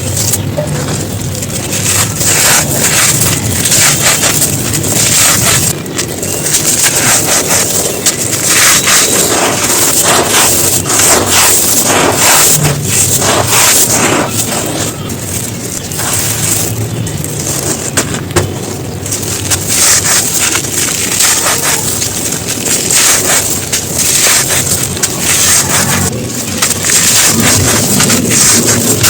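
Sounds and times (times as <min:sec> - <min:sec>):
dried chunks crunching: 0:00.0 - 0:29.0.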